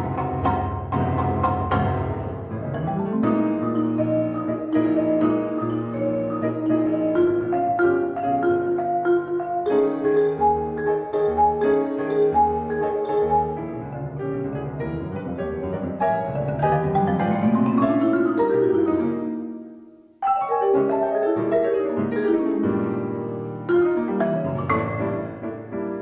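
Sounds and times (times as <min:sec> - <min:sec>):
grand piano: 0:00.0 - 0:26.0
marimba: 0:00.0 - 0:26.0.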